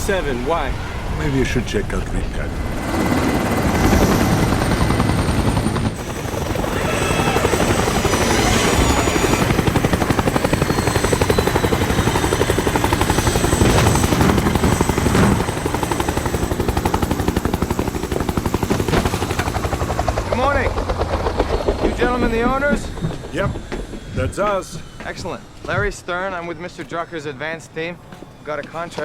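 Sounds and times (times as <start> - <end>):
helicopter rotor and turbine whine: 0.0 - 29.0.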